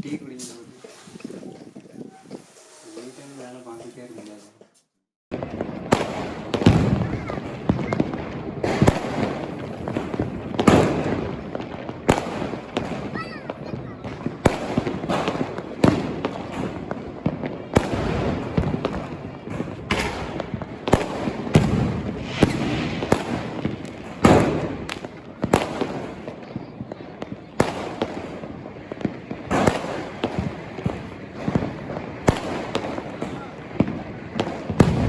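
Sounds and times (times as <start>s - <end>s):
fireworks bangs: 5.3s - 35.0s.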